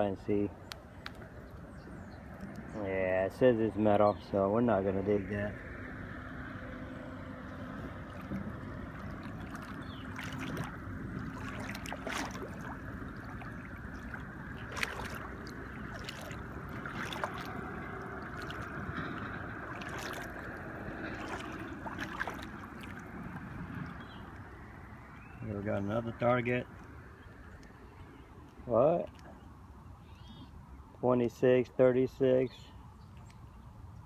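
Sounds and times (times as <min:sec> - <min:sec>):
river water flowing: 0:00.0 - 0:31.4.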